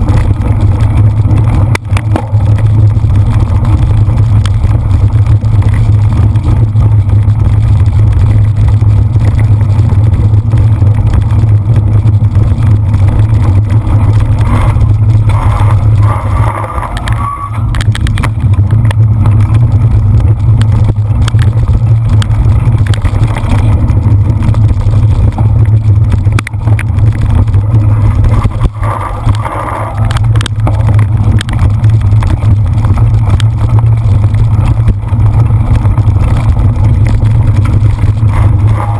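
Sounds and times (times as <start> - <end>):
bike knocks and rattles: 0.0 - 38.9
bike riding noise: 0.0 - 38.9
wind rumble on microphone: 0.0 - 38.9.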